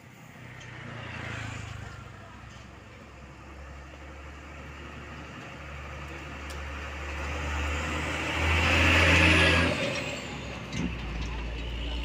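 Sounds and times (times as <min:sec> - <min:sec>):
diesel truck passing: 0:00.1 - 0:12.0.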